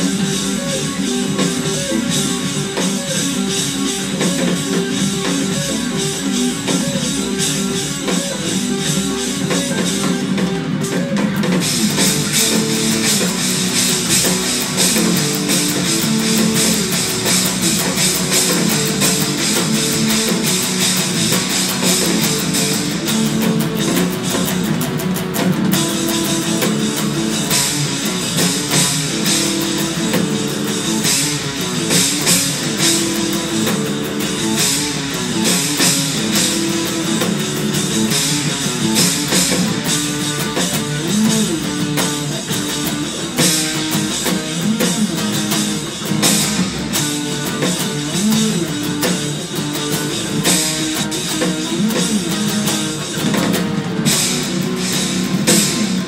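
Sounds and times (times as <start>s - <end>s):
drum kit and cymbals: 0.0s - 56.0s
electric guitar fast picked lines: 0.0s - 56.0s
recorded metal track: 0.0s - 56.0s.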